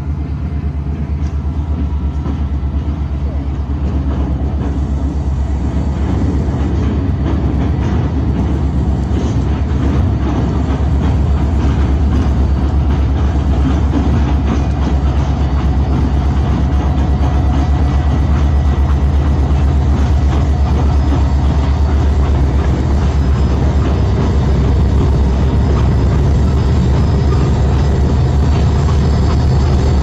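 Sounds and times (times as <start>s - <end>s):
diesel locomotive rumble: 0.0s - 30.0s.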